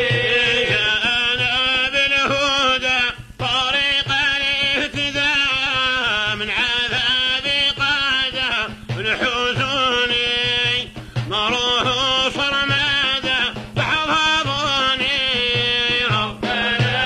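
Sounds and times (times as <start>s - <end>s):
man singing ornamented chant: 0.0s - 17.0s.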